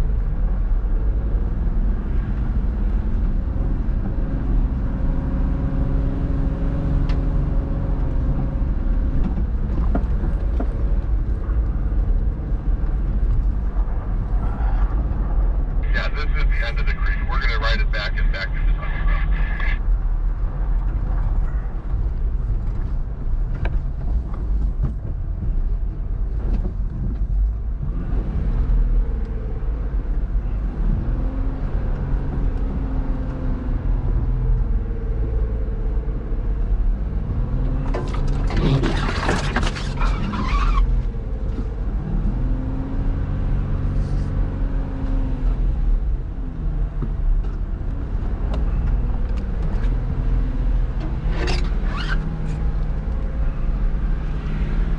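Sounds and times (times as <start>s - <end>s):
off-road vehicle engine rumbling: 0.0s - 54.9s.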